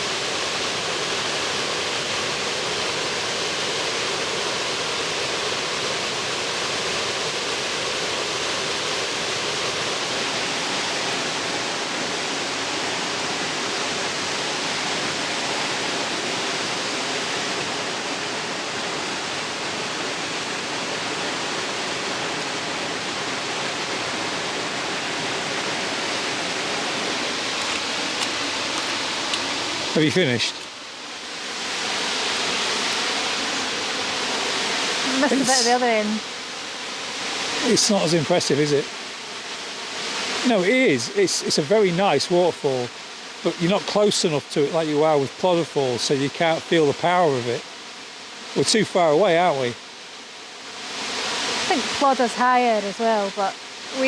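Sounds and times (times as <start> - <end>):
waterfall rushing: 0.0 - 47.6, 48.6 - 49.8, 50.9 - 54.0.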